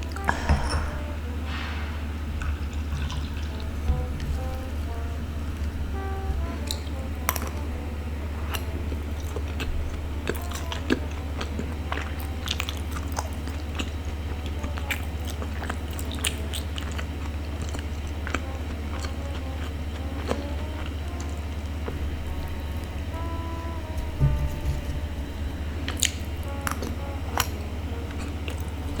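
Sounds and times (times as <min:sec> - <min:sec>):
low steady hum: 0:00.0 - 0:29.0
chewing sticky rice ball: 0:01.2 - 0:29.0.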